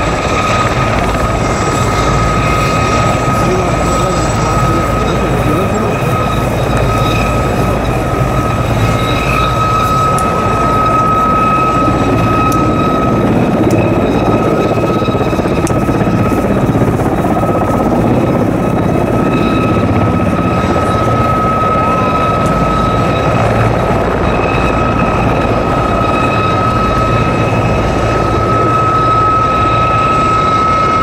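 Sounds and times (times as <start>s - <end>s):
helicopter rotor and turbine noise: 0.0s - 31.0s
high turbine whine: 0.0s - 31.0s.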